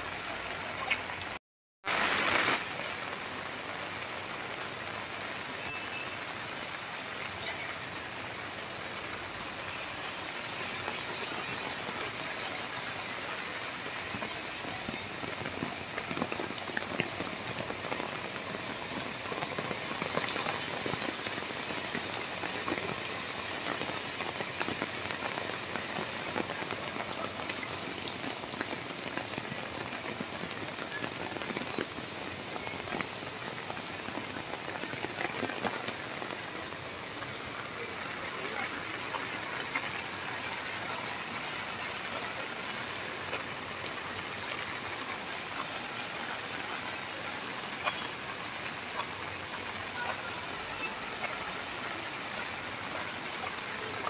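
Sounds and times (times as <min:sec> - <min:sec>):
rain on wet pavement: 0:00.0 - 0:54.0.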